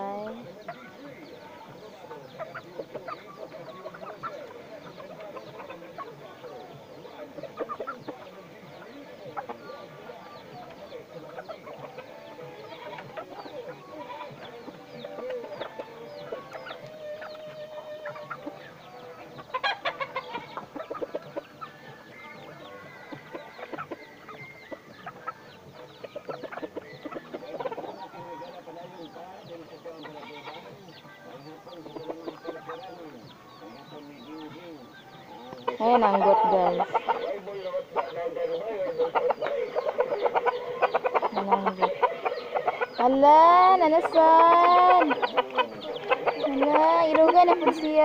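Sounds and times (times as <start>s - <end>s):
chickens clucking: 0.0s - 48.0s.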